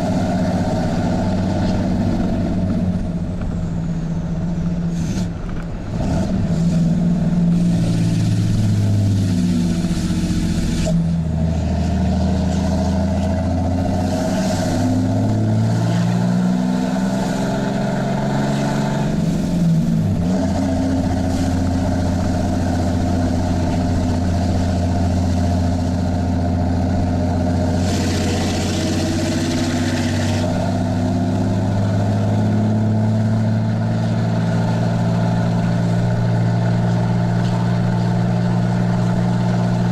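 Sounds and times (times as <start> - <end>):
loud diesel exhaust in cab: 0.0 - 39.9.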